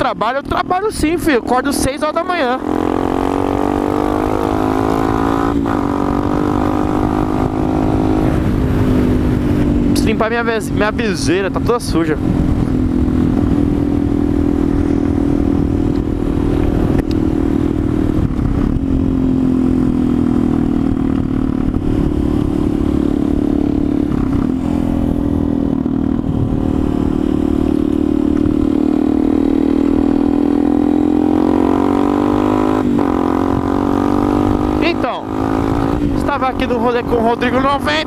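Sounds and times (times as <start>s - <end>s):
motorcycle engine running: 0.0s - 38.0s
wind rumble on microphone: 0.6s - 38.0s.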